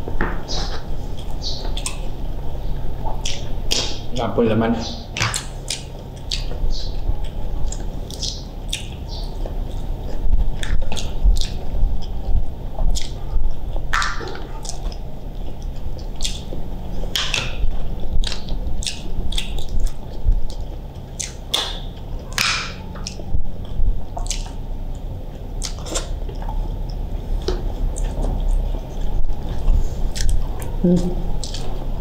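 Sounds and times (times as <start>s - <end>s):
low steady hum: 0.0s - 32.0s
eating mouth sounds: 0.4s - 4.2s, 4.8s - 32.0s.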